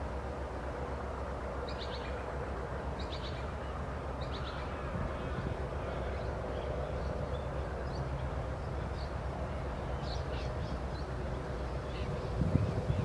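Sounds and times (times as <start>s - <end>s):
distant diesel locomotive engine: 0.0s - 13.0s.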